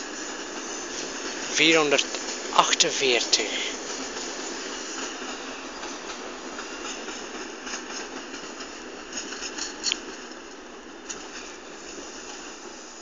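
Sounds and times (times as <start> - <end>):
wheels clicking over rail joints: 0.0 - 12.8
train running noise: 0.0 - 13.0.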